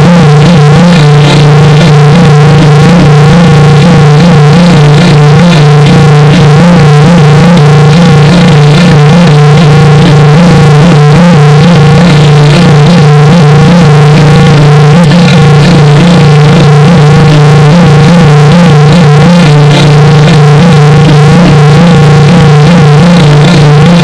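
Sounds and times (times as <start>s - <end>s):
distorted electronic drone with wobbling tones: 0.0s - 24.0s.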